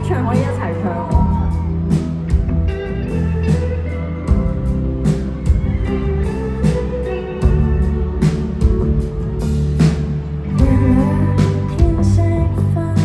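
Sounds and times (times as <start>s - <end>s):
bass guitar: 0.0s - 13.0s
drum kit: 0.0s - 13.0s
electric guitar: 0.0s - 13.0s.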